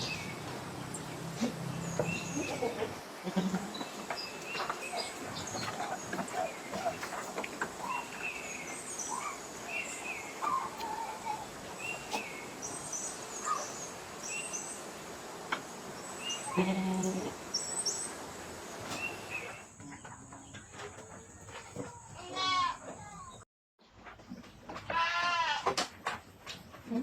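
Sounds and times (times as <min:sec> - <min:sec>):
small birds chirping: 0:00.0 - 0:22.2.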